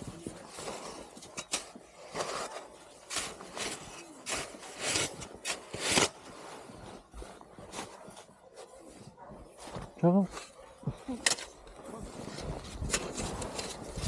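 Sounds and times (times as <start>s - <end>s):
hand tools scraping snow: 0.0s - 8.8s, 9.5s - 14.0s.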